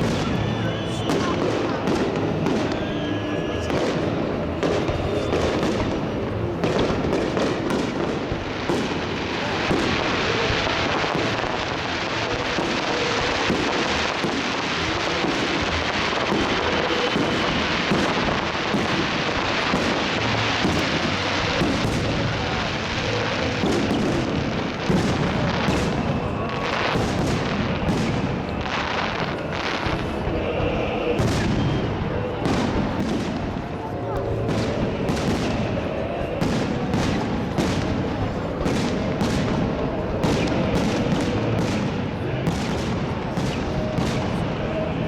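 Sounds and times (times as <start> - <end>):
fireworks bangs: 0.0 - 45.0.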